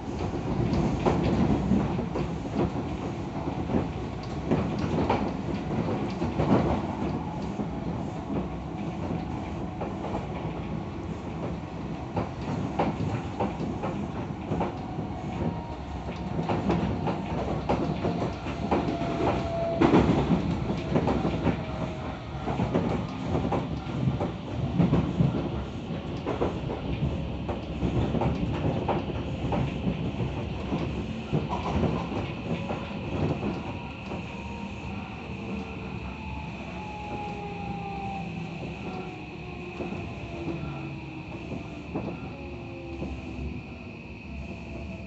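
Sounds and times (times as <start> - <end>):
train rumble: 0.0 - 45.0.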